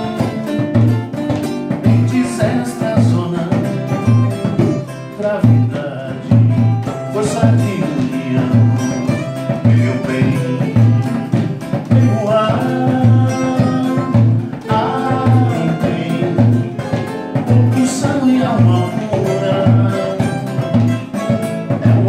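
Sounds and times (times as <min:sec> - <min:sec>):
strummed acoustic guitars: 0:00.0 - 0:22.0
voices singing: 0:00.0 - 0:22.0
wooden hand drum beat: 0:00.0 - 0:22.0.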